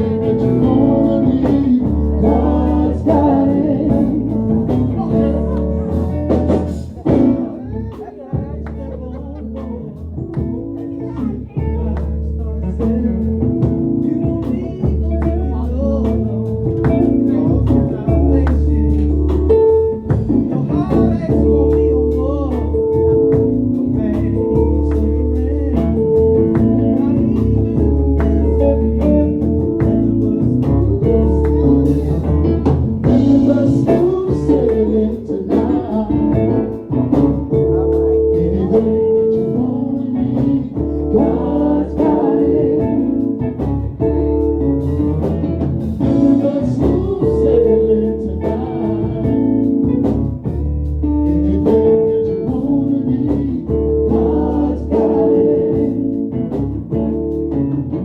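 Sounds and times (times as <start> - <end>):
live gospel band playing: 0.0 - 58.0.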